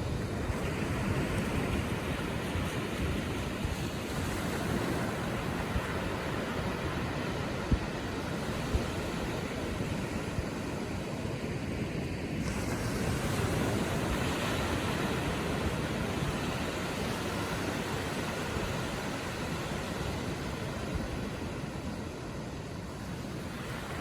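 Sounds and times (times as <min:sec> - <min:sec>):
ocean waves lapping on shore: 0:00.0 - 0:24.0.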